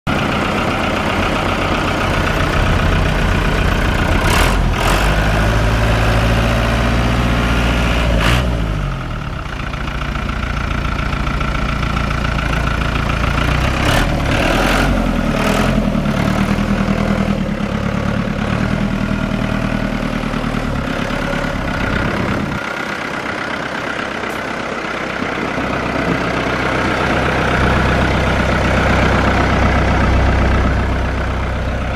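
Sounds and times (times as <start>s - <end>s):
tractor diesel engine running: 0.1s - 31.9s.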